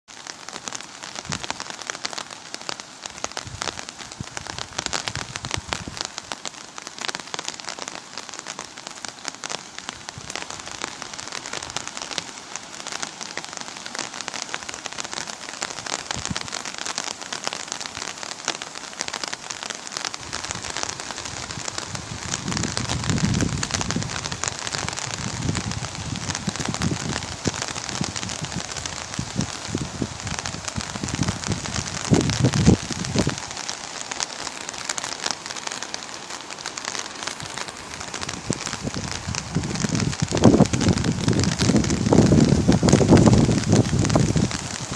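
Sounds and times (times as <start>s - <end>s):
heavy rain falling: 0.1s - 44.9s.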